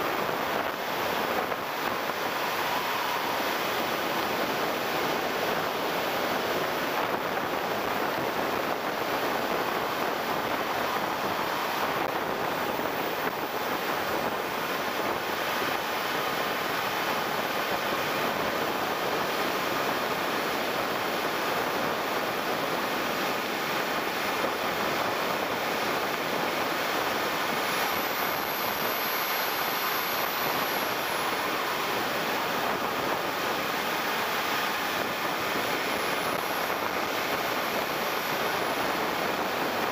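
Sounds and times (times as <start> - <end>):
faint high whine: 0.0 - 39.9
jet turbine running: 0.0 - 39.9
rushing airflow: 0.0 - 39.9.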